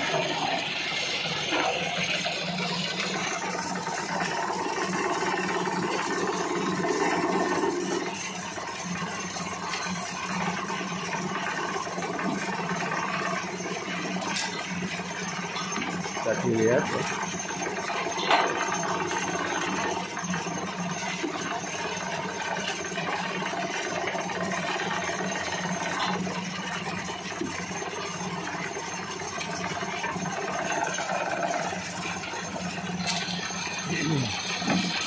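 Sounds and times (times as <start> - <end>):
dense rattle of grinding: 0.0 - 35.0
grinder motor hum: 0.0 - 35.0.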